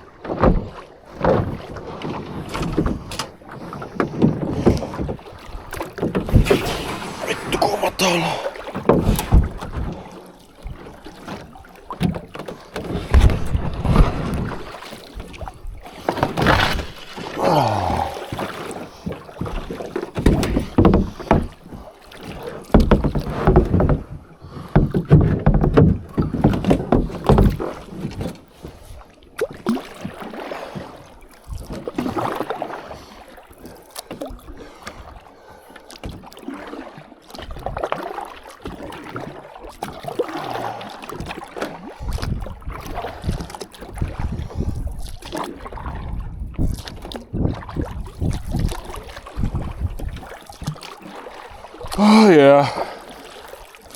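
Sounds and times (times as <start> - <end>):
kayak paddle splashing: 0.0 - 53.9.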